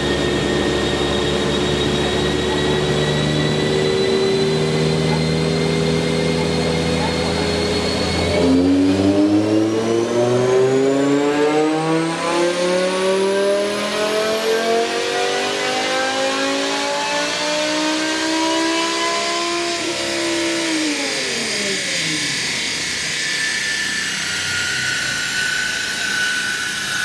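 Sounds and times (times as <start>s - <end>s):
engine revving at full throttle: 0.0s - 27.0s.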